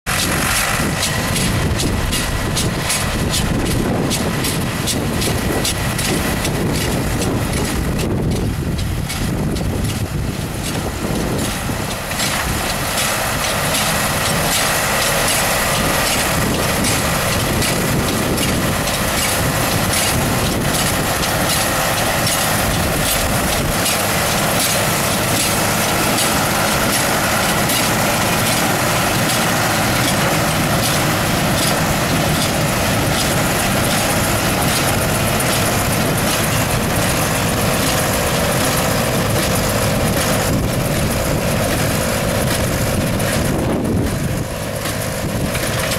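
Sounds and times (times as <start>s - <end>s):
tractor running: 0.0s - 45.9s
hay baler clattering: 0.1s - 45.9s.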